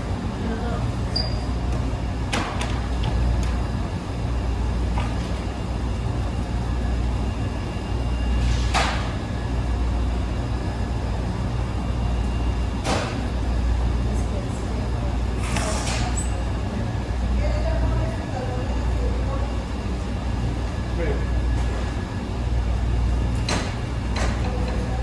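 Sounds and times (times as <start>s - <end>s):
washing machine humming: 0.0s - 25.0s.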